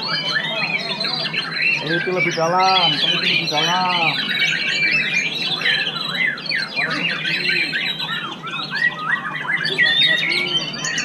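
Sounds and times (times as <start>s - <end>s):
bird singing whistled song: 0.0s - 11.0s.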